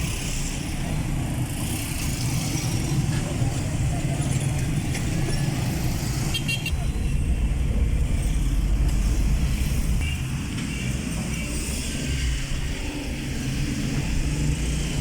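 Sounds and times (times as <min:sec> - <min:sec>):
traffic engine and road rumble: 0:00.0 - 0:15.0.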